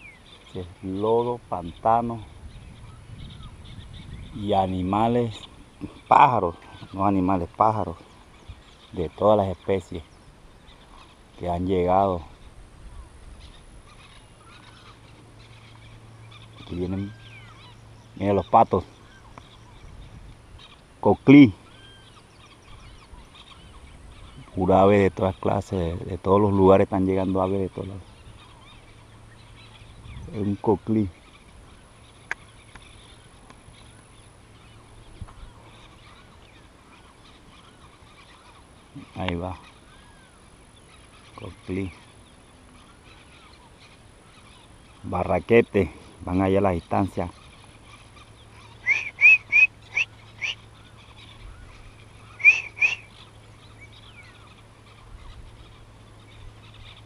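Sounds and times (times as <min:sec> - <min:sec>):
distant birds chirping: 0:00.0 - 0:57.0.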